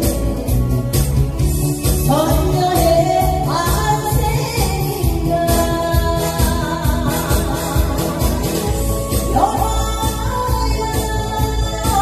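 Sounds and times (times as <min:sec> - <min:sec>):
amplified music with steady beat: 0:00.0 - 0:12.0
woman singing into microphone: 0:01.9 - 0:12.0.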